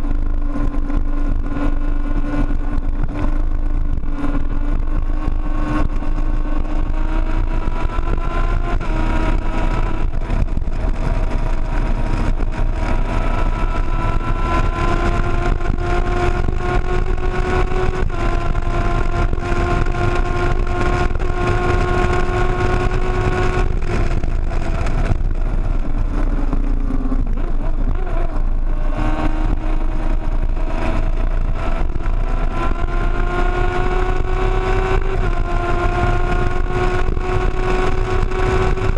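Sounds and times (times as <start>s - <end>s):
motorcycle engine at speed: 0.0s - 38.9s
wind rumble: 0.0s - 38.9s.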